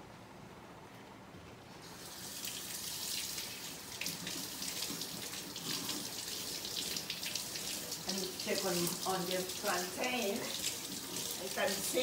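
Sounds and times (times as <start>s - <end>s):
tap water running: 1.8s - 12.0s.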